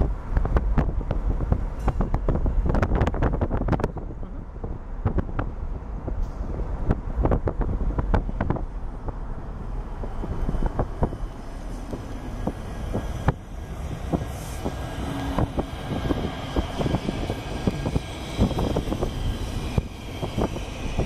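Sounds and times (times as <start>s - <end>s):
train ride rumble: 0.0s - 21.0s
wheels clicking and knocking on track: 0.0s - 21.0s.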